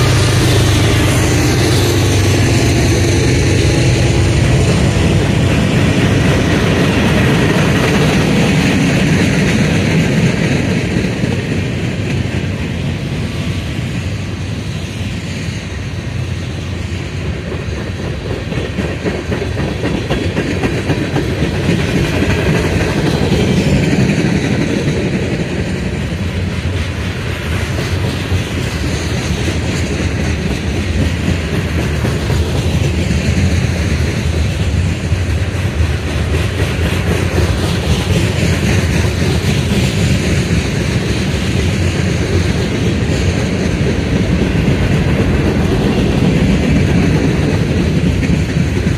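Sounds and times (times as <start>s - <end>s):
freight train wheels rumbling on rails: 0.0s - 48.9s.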